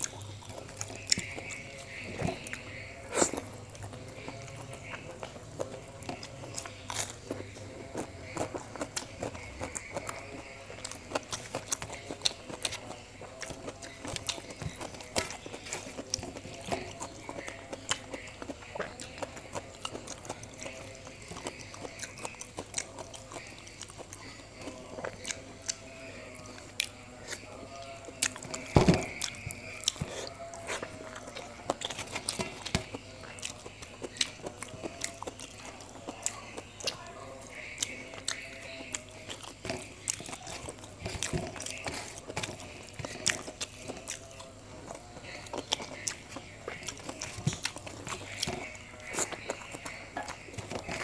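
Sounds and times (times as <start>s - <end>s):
man chewing food: 0.0s - 51.0s.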